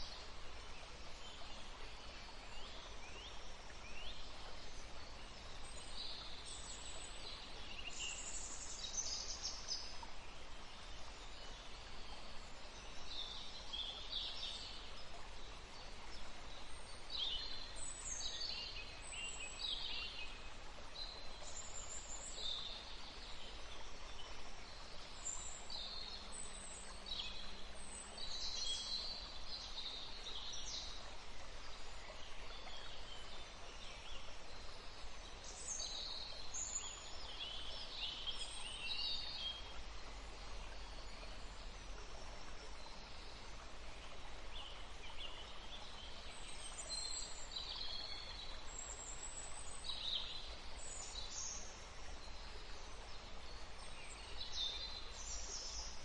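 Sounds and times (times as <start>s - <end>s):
gentle breeze hiss: 0.0s - 56.0s
songbirds chirping: 0.0s - 56.0s.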